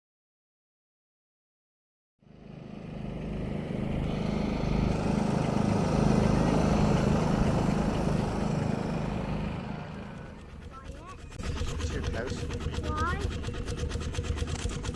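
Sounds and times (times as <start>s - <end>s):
vehicle engine running: 2.2s - 14.9s.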